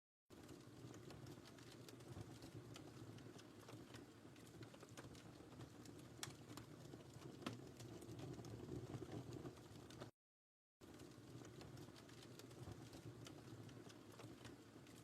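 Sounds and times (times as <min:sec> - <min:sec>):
wood fire crackling: 0:00.3 - 0:10.1, 0:10.8 - 0:15.0.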